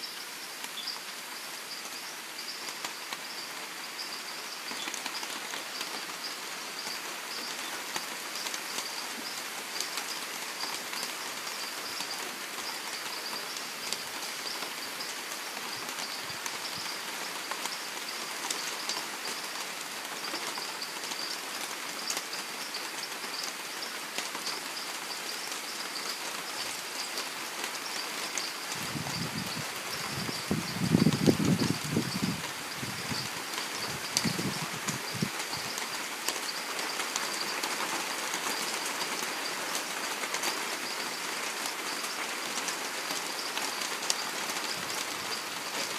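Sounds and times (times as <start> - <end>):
rain on foliage: 0.0 - 45.9.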